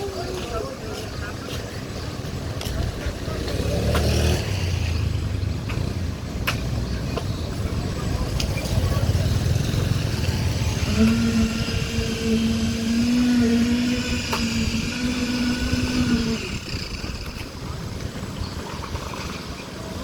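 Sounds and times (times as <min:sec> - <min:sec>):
construction machinery hum: 0:00.0 - 0:20.0
machinery noise: 0:00.0 - 0:20.0.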